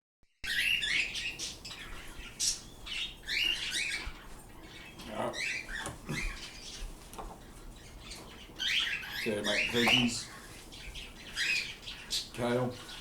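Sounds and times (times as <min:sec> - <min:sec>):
pet birds chirping: 0:00.4 - 0:13.0.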